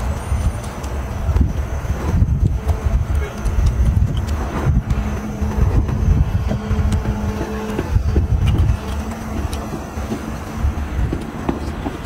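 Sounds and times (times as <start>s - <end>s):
motor rumbling: 0.0s - 12.0s.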